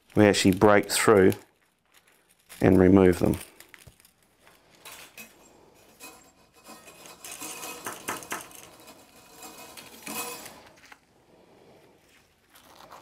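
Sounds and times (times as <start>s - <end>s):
steel wires clinking and scraping: 0.0s - 13.0s.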